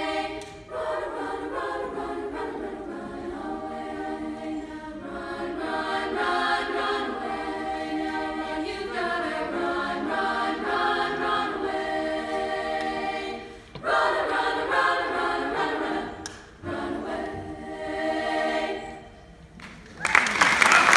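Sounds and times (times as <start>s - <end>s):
women's choir singing: 0.0s - 19.5s.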